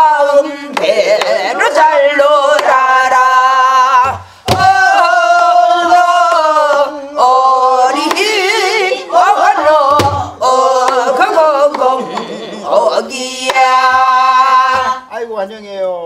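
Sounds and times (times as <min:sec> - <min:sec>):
woman singing with vibrato: 0:00.0 - 0:15.1.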